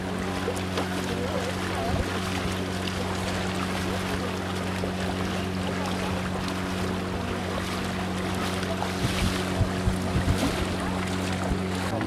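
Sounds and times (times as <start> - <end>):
boat engine running: 0.0 - 12.0
water noise: 0.0 - 12.0
wind: 0.0 - 12.0.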